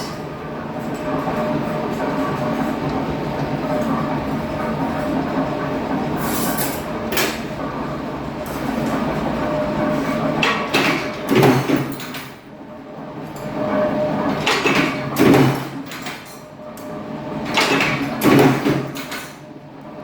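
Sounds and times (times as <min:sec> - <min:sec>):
steady motor hum: 0:00.0 - 0:20.0.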